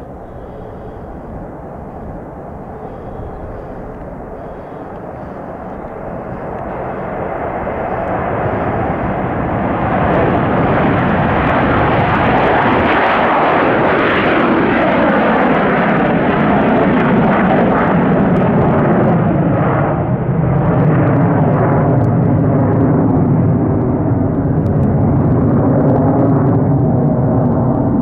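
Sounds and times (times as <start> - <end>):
jet engines at takeoff power: 0.0 - 28.0.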